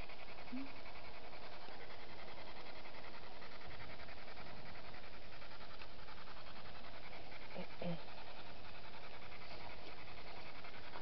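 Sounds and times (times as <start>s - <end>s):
constant hiss: 0.0s - 11.0s.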